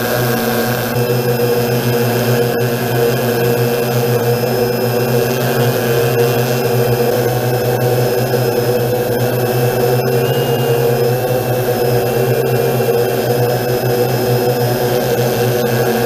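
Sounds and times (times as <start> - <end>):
drone motors and propellers humming: 0.0 - 16.0.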